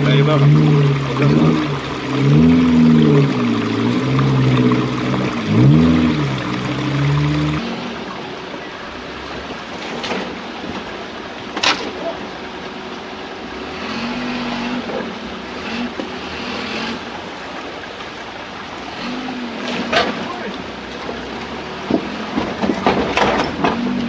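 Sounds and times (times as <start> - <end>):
small four by four engine crawling: 0.0 - 24.0.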